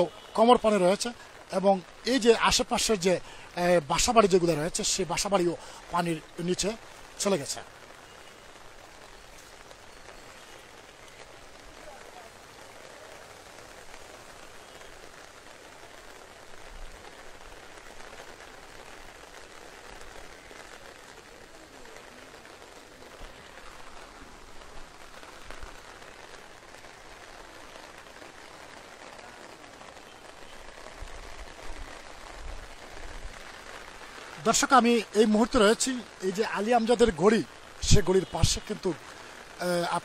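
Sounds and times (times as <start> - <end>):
rain falling on water: 0.0 - 40.0.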